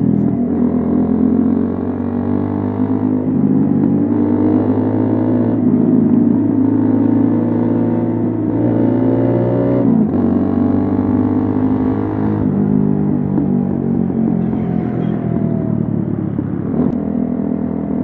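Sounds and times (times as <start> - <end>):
motorcycle engine and exhaust: 0.0 - 18.0.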